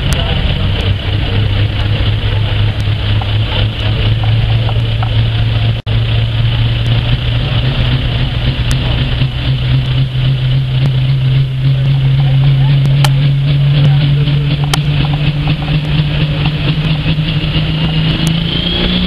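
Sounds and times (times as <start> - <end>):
engine running at full throttle: 0.0 - 19.0.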